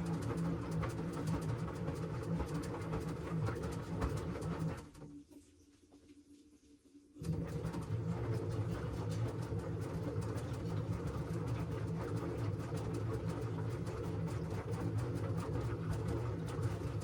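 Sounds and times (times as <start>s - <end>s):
washing machine running: 0.0s - 5.0s, 7.2s - 17.0s.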